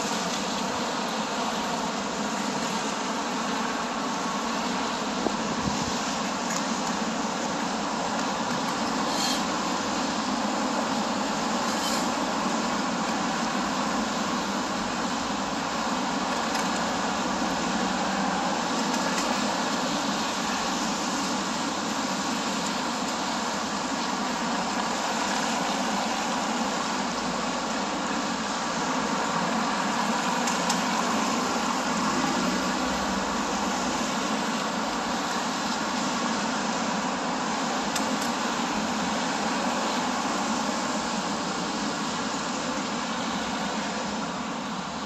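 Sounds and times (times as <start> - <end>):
tyre hiss on wet road: 0.0 - 45.0.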